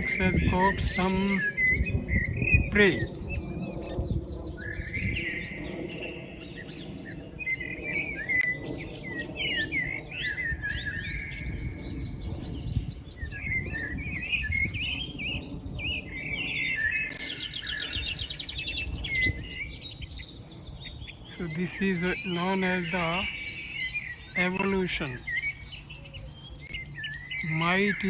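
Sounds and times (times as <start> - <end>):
songbirds chirping and singing: 0.0 - 28.0.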